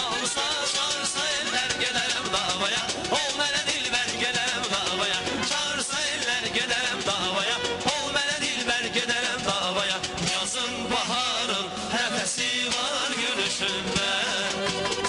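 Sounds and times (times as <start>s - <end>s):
instrumental accompaniment with beat: 0.0s - 15.0s
male vocal group singing: 0.0s - 15.0s.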